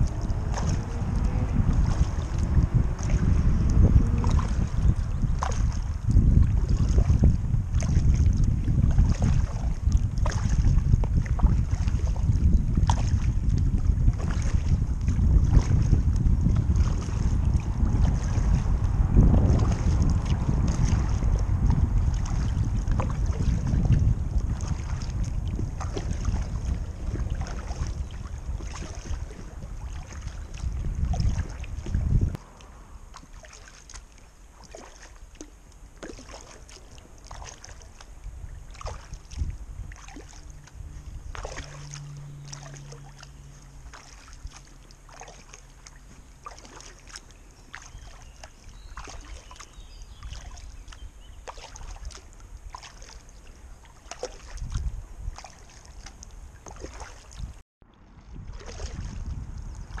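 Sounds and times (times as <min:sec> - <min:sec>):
paddle splashing in water: 0:00.0 - 1:00.0.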